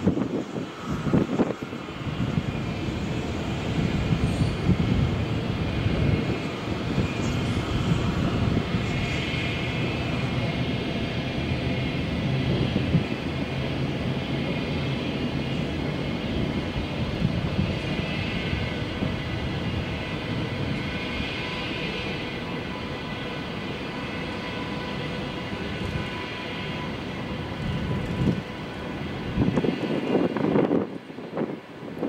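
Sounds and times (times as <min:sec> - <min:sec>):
train rolling rumble: 0:00.0 - 0:32.0.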